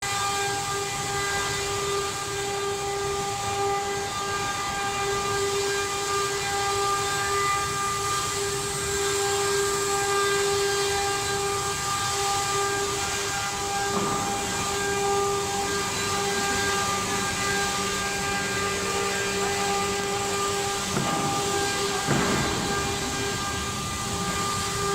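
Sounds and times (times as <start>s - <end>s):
router spindle high whine: 0.0s - 24.9s
cutting hiss: 1.1s - 24.9s.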